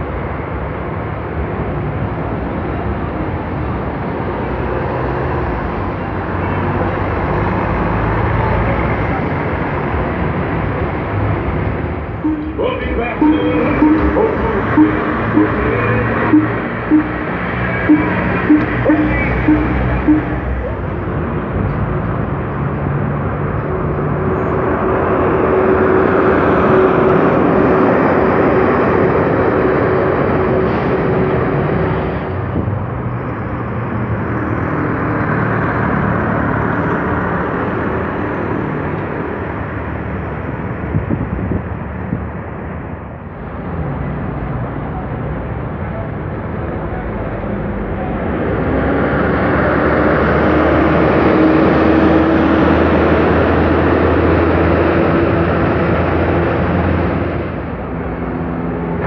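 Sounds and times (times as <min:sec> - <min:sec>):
buses driving past: 0:00.0 - 0:59.0
engine whine: 0:00.0 - 0:59.0
road and tyre noise: 0:00.0 - 0:59.0.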